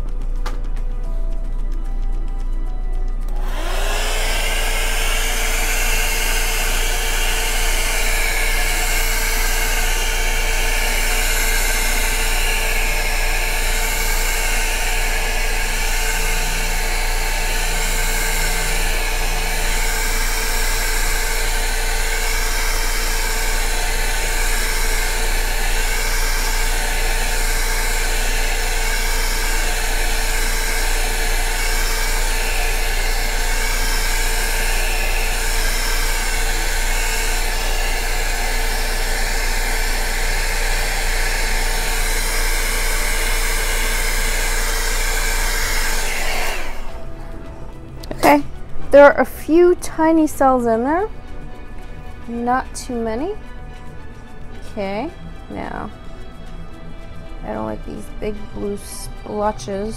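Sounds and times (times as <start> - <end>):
hot-air blower motor whine: 0.0 - 49.5, 50.3 - 59.9.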